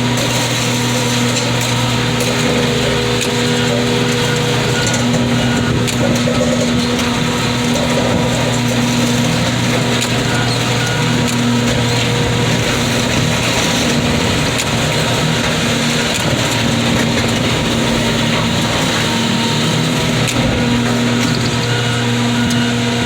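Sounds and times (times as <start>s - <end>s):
hydraulic machine humming: 0.0s - 23.0s.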